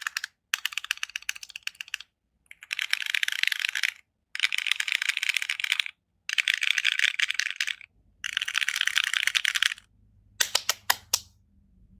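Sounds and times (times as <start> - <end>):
mechanical keyboard typing: 0.0 - 9.8.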